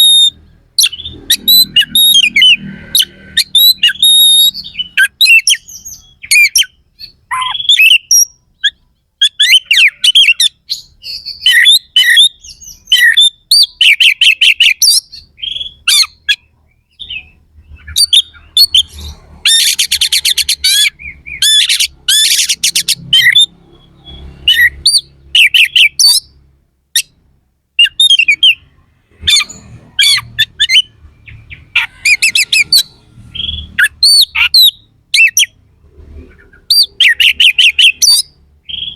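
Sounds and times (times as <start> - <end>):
bird whistles and chirps: 0.0 - 26.4, 27.8 - 38.9.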